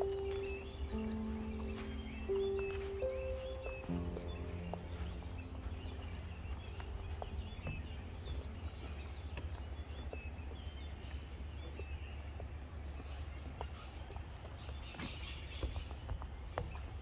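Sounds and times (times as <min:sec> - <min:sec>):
steady low rumble: 0:00.0 - 0:14.6
birds chirping: 0:00.0 - 0:17.0.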